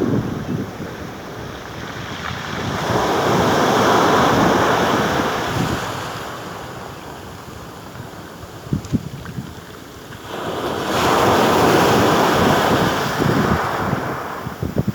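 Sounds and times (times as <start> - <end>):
sea waves washing on shore: 0.0 - 14.9
wind buffeting microphone: 0.0 - 14.9.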